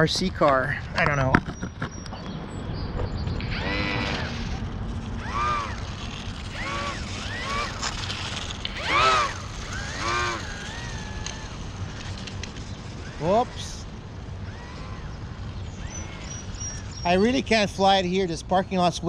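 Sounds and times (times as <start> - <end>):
small electric motor and propeller whining: 0.0 - 18.9.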